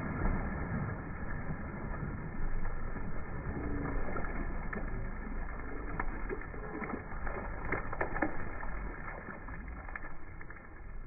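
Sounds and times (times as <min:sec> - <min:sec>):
sharp splashy crackles: 0:00.0 - 0:11.0
water splashing and churning: 0:00.0 - 0:11.0
wind rumble on microphone: 0:00.0 - 0:11.0.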